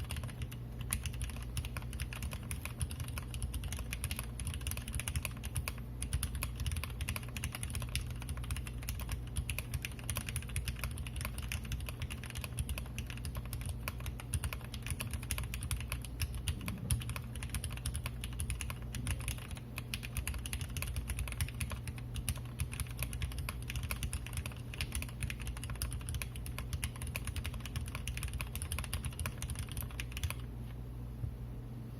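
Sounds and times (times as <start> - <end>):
mechanical keyboard typing: 0.0 - 30.5.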